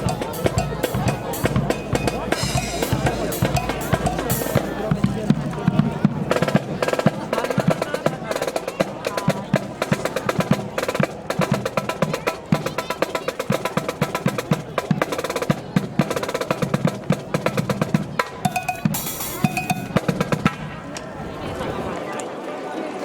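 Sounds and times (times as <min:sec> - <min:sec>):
snare drum strokes and rolls: 0:00.0 - 0:21.1.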